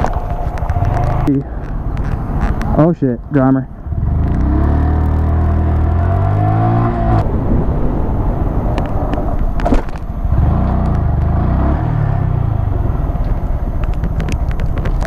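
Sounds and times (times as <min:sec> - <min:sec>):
motorcycle engine accelerating: 0:00.0 - 0:15.0
road and wind noise: 0:00.0 - 0:15.0.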